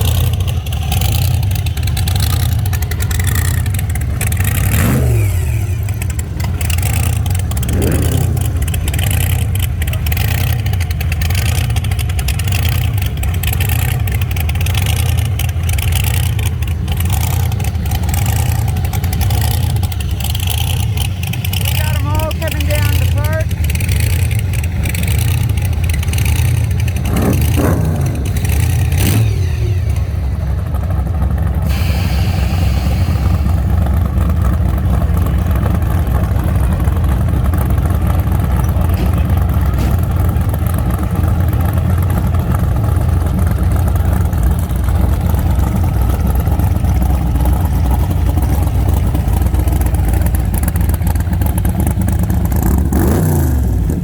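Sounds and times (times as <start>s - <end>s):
vehicle engine rumbling and revving: 0.0s - 54.0s.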